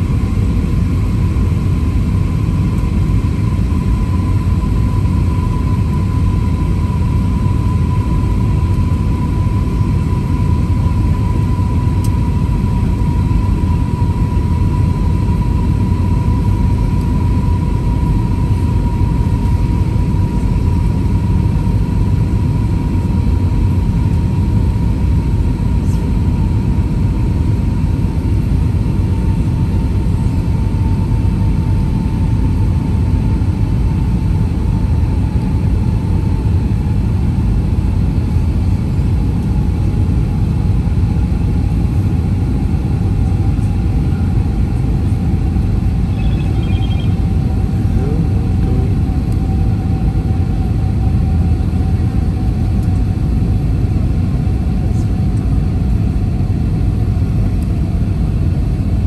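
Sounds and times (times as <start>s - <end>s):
airliner cabin roar: 0.0s - 59.0s
jet engine whine: 0.0s - 59.0s.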